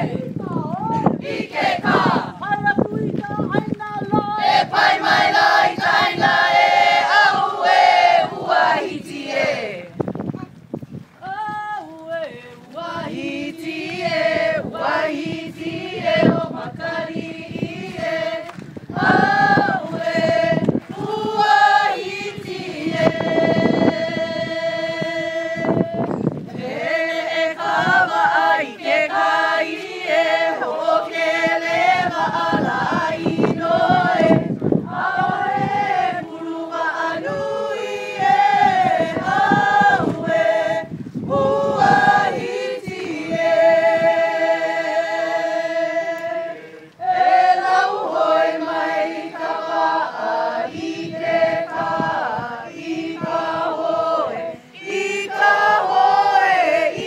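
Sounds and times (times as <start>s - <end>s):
group singing in unison: 0.0s - 2.4s, 4.2s - 10.1s, 12.1s - 57.0s.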